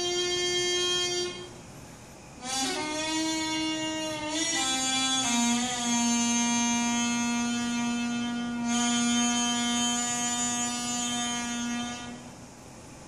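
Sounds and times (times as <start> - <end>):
double-reed oboe long low note: 0.0 - 1.5, 2.4 - 12.3.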